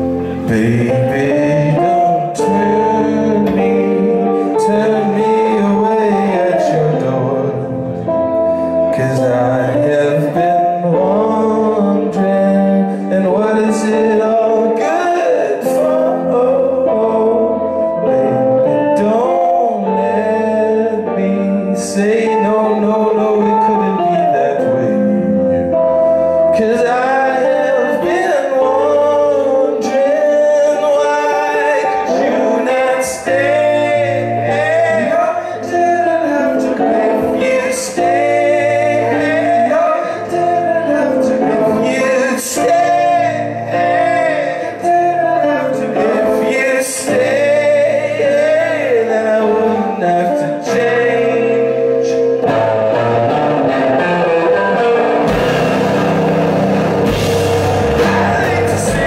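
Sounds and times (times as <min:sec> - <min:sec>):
live band playing: 0:00.0 - 0:59.0
man singing: 0:00.0 - 0:59.0.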